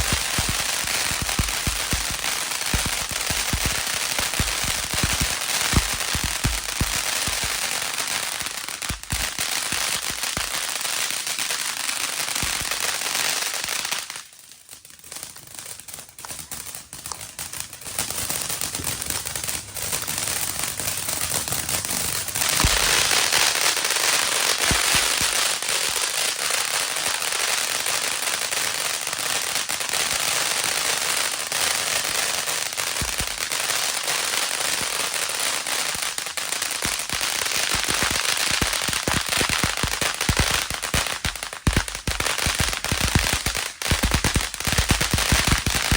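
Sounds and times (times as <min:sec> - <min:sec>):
fountain firework crackling hiss: 0:00.0 - 0:45.9.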